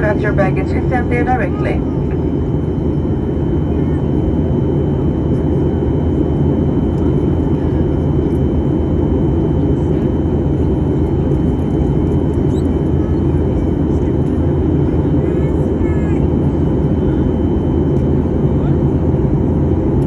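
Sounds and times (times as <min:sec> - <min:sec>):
low hum of jet engines: 0:00.0 - 0:20.0.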